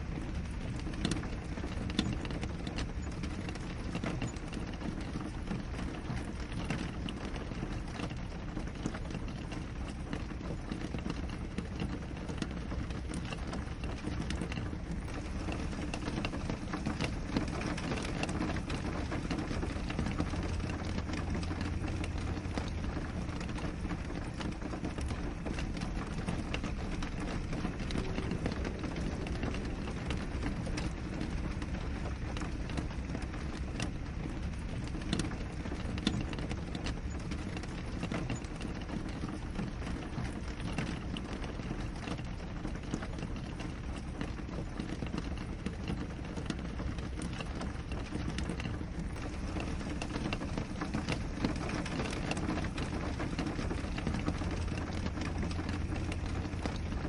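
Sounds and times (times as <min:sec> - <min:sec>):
rain drops tapping on glass: 0:00.0 - 0:57.0.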